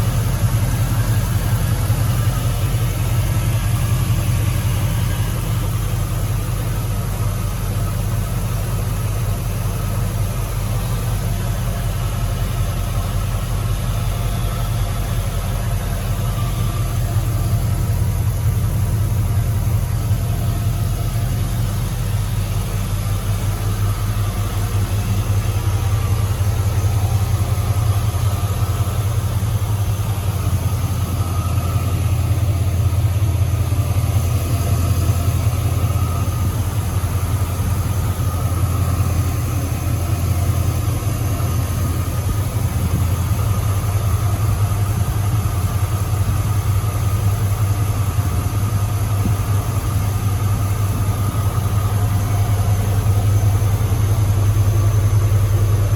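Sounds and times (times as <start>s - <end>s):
pickup engine idling: 0.0s - 55.9s.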